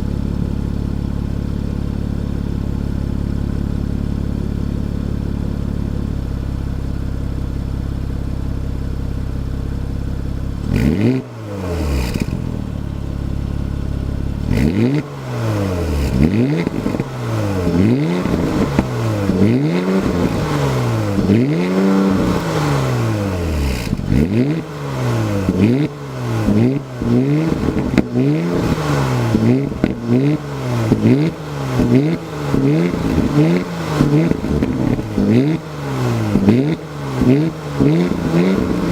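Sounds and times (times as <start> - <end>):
exhaust cracks: 0.0 - 6.5, 10.4 - 38.9
car engine idling and revving: 0.0 - 38.9.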